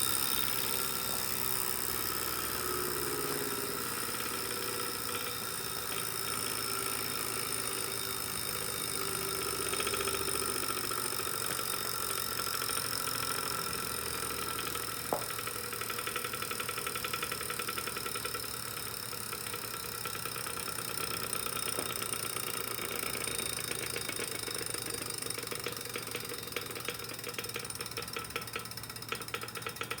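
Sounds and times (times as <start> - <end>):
bike trainer whine with rattling tick: 0.0 - 30.0.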